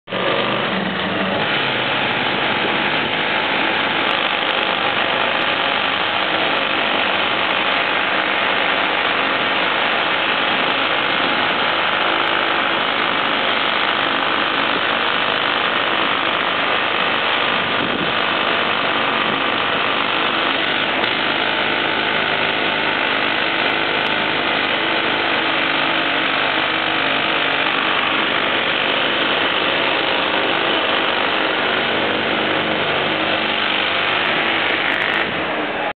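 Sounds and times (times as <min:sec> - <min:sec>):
jackhammer hammering: 0:00.0 - 0:35.7.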